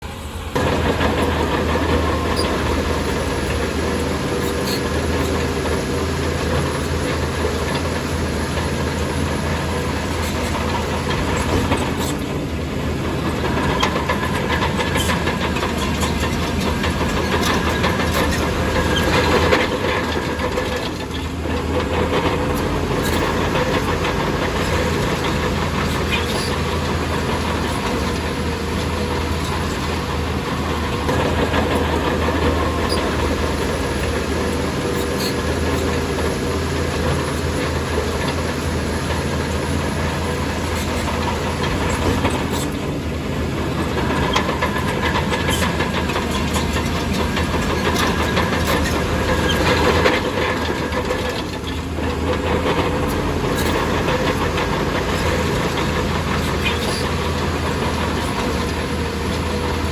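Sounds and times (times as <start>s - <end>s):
bulldozer diesel engine running: 0.0s - 59.9s
steel tracks clanking: 0.0s - 59.9s.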